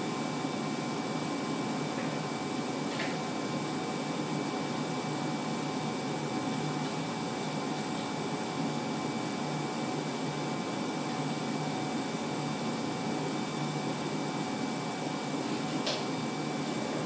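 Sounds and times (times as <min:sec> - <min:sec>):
laser cutter whirring hum: 0:00.0 - 0:17.0.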